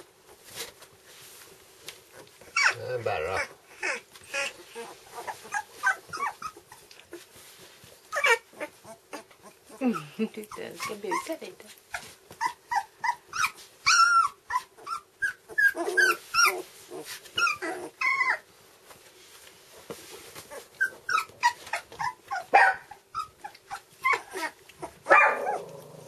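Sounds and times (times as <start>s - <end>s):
puppies whimpering and yipping: 2.1s - 18.6s, 19.7s - 25.8s.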